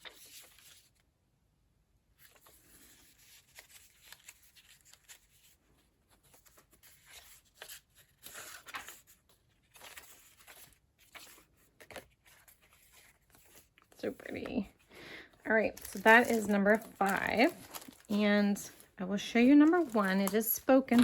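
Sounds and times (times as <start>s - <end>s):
paper pages being turned: 0.0s - 1.0s, 2.2s - 21.0s.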